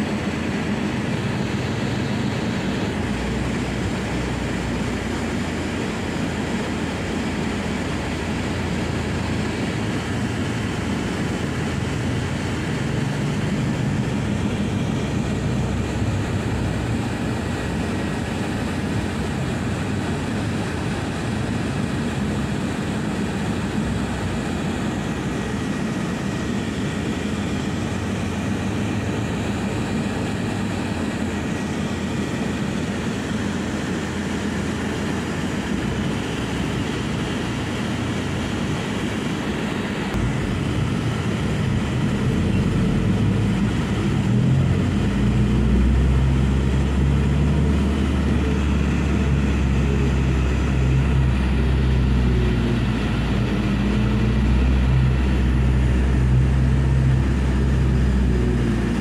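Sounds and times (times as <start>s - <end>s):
van engine and road noise: 0.0s - 59.0s.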